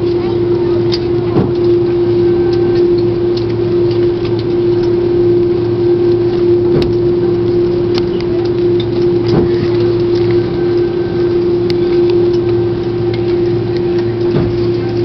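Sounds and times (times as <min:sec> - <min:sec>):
constant humming tone: 0:00.0 - 0:15.0
jet engine cabin drone: 0:00.0 - 0:15.0.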